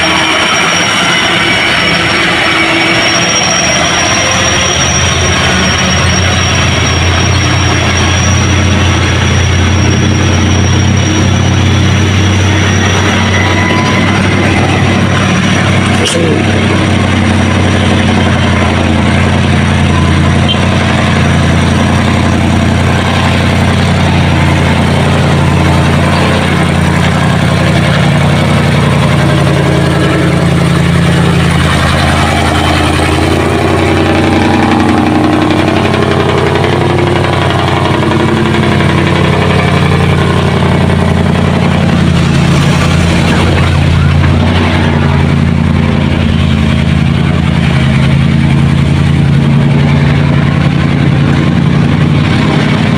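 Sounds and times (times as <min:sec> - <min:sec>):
truck engine droning: 0:00.0 - 0:52.9.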